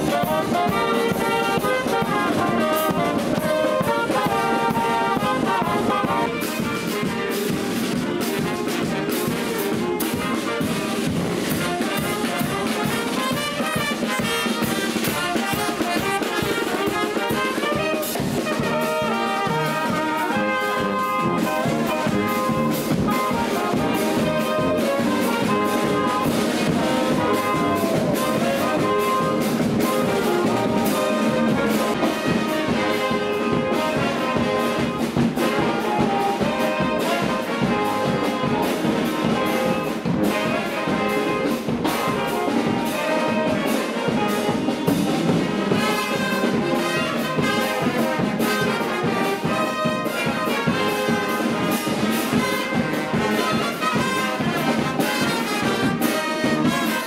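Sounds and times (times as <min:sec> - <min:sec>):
bass drum beat: 0:00.0 - 0:48.4
brass band playing: 0:00.0 - 0:57.0.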